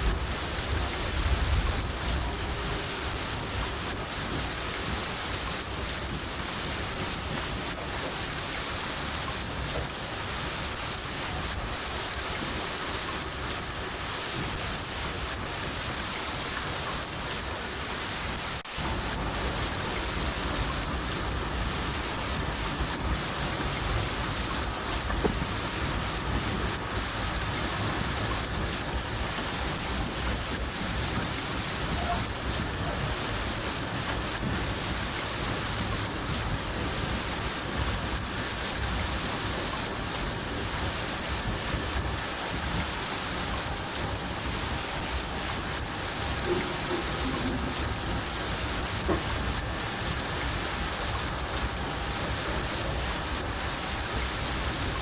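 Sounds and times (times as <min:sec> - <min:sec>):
cricket chirping: 0:00.0 - 0:55.0
rain hissing: 0:00.0 - 0:55.0.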